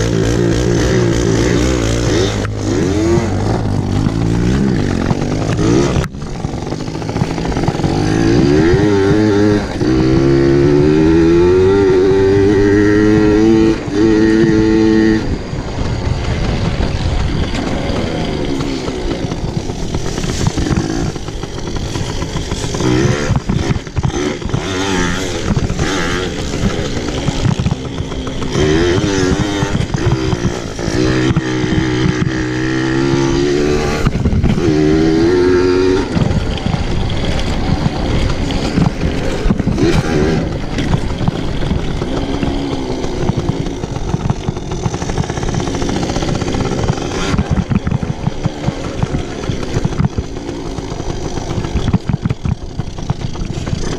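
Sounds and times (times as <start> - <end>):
pit bike engine revving: 0.0 - 53.9.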